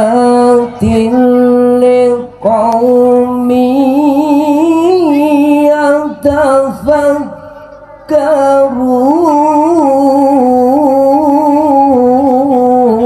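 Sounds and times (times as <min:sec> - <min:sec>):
person reciting melodically: 0:00.0 - 0:13.0.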